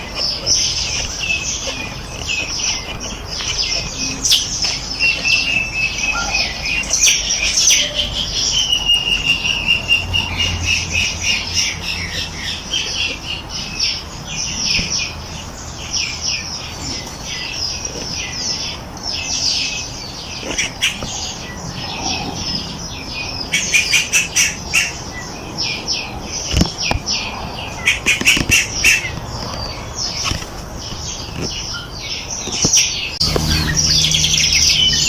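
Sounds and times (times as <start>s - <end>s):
songbirds chorus: 0.0s - 35.0s.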